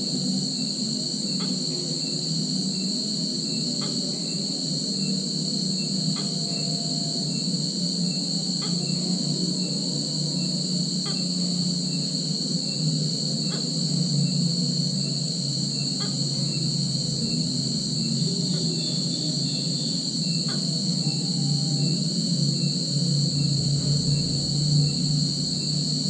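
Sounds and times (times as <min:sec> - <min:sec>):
constant low hum: 0:00.0 - 0:26.0
insects trilling: 0:00.0 - 0:26.0.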